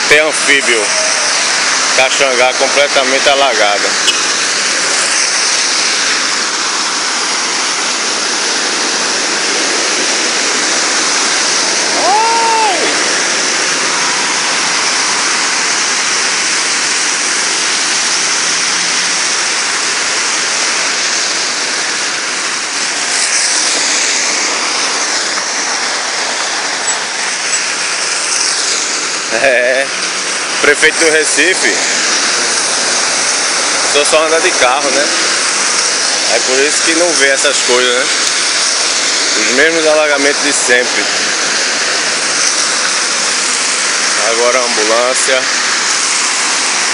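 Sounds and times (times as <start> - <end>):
heavy rain on a street: 0.0 - 46.9.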